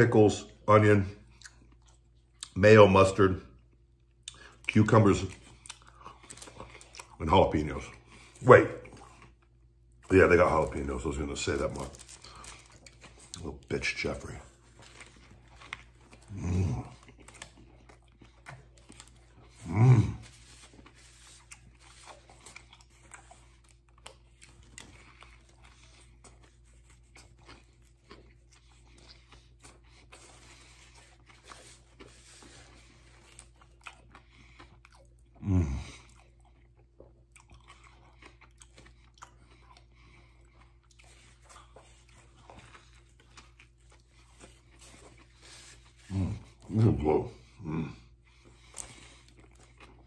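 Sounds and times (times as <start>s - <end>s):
chewing and crunching sandwich: 0.0s - 50.0s.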